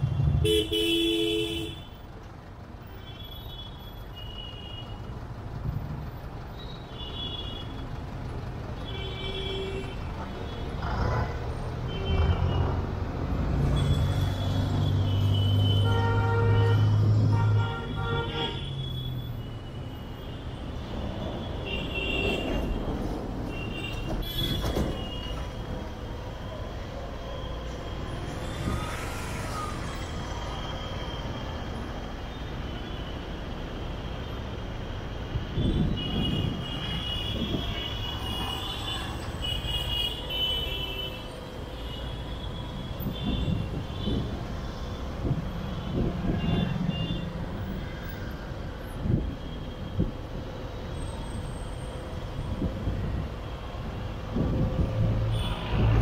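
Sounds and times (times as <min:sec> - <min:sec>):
low rumble of traffic: 0:00.0 - 0:56.0.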